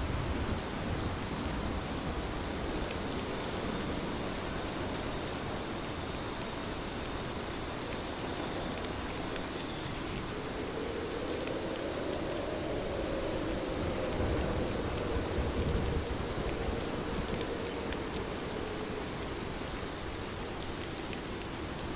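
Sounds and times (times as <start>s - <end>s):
heavy rain on foliage: 0.0s - 21.9s.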